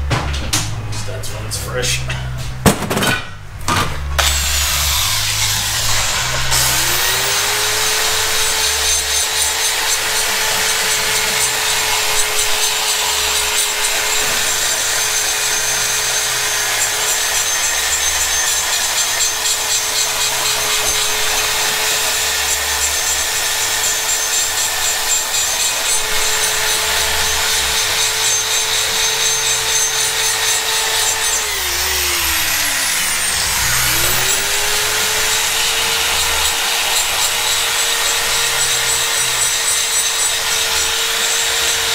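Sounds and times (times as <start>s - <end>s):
die grinder whining: 4.0s - 41.9s.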